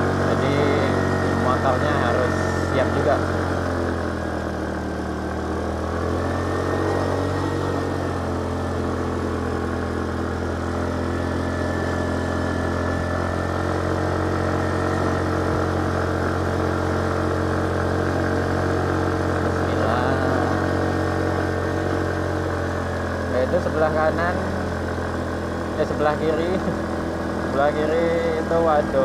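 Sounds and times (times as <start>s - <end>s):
motorcycle engine under load: 0.0s - 29.0s.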